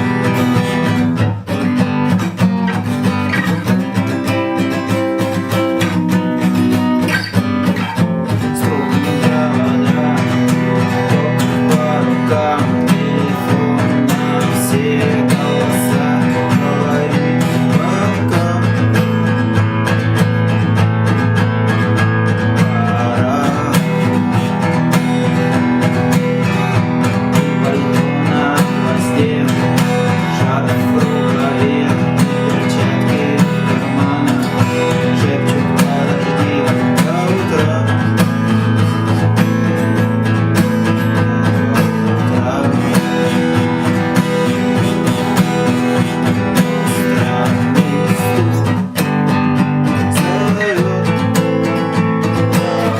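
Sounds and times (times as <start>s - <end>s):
acoustic guitar strumming: 0.0s - 52.9s.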